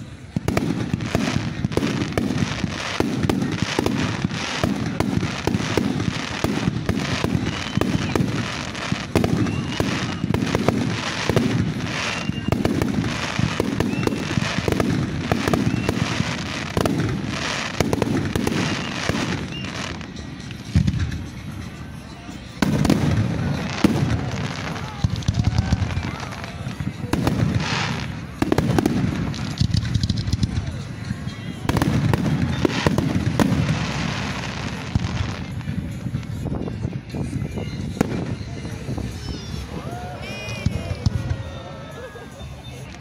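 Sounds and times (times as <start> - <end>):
fireworks shells bursting: 0.1 - 36.9.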